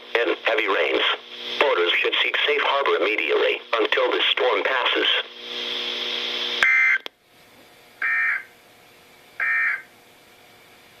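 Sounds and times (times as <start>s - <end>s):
radio receiver hum with hiss: 0.0s - 10.0s.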